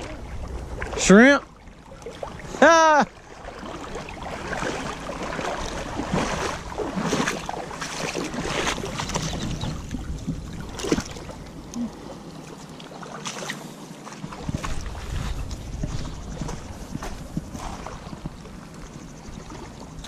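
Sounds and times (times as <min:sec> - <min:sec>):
wading steps in shallow water: 0:00.0 - 0:20.0.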